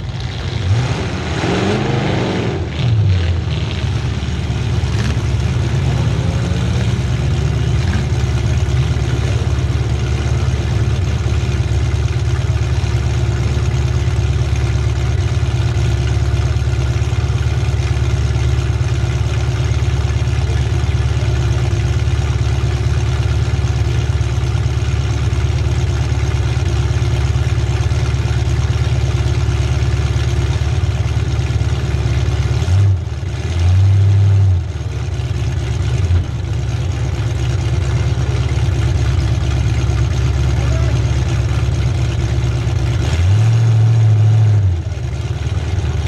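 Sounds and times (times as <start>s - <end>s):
car engine idling: 0.0s - 1.2s, 2.6s - 46.0s.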